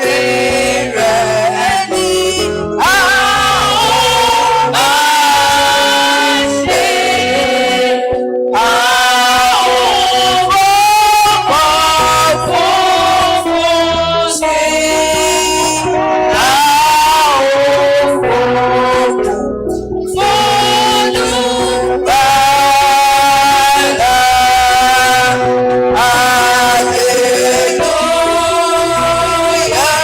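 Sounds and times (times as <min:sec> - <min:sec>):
instrumental accompaniment: 0:00.0 - 0:30.0
voices singing worship song: 0:00.0 - 0:30.0.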